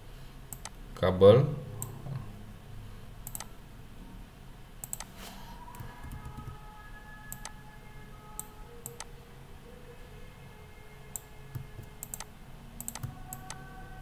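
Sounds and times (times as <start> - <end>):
faint background hum: 0.0 - 14.0.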